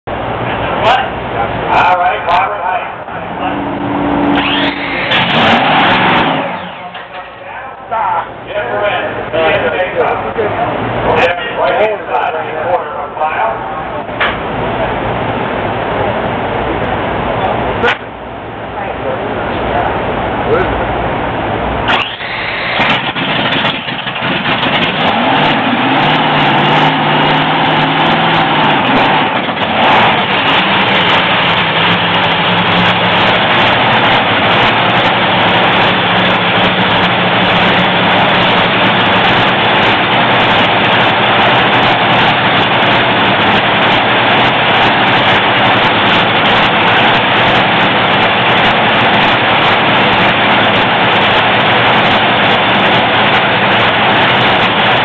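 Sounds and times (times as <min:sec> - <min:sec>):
dragster engine idling loudly: 0:00.0 - 0:55.0.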